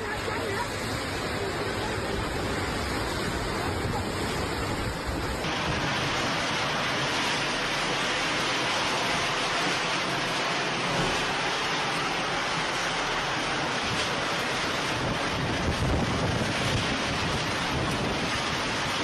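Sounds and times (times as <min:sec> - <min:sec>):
rain: 0:00.0 - 0:19.0
storm wind: 0:00.0 - 0:19.0.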